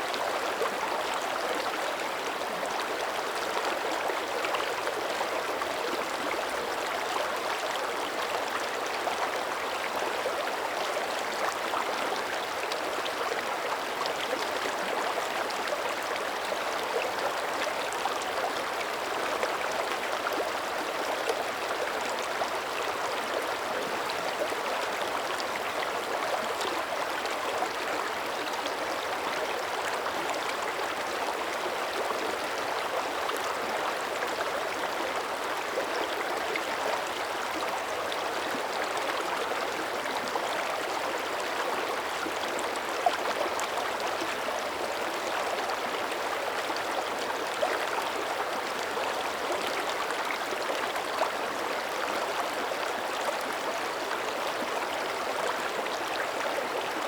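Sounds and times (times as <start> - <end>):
creek babbling over stones: 0.0 - 57.0.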